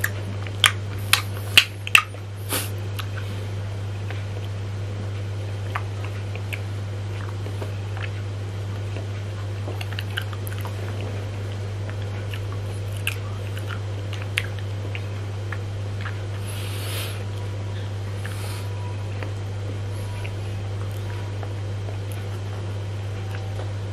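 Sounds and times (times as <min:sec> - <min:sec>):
wet chewing mouth sounds: 0:00.0 - 0:03.4, 0:05.4 - 0:23.6
steady low hum: 0:00.0 - 0:23.9.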